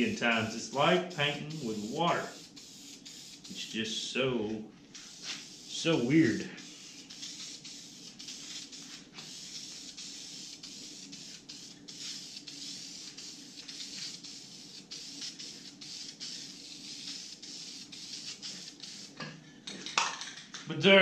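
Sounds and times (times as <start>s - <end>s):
spray paint can hissing: 0.0s - 4.1s, 4.9s - 19.2s.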